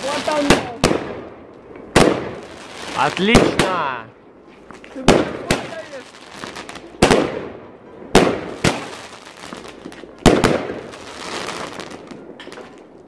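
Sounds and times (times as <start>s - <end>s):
firework bangs: 0.0s - 1.3s, 1.9s - 4.1s, 5.0s - 12.9s
fizzing crackle of fireworks: 0.0s - 13.0s.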